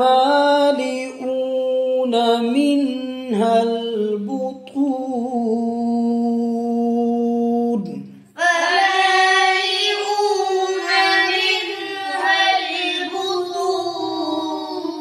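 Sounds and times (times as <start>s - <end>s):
chanted recitation: 0.0s - 15.0s
high voice singing: 2.8s - 15.0s.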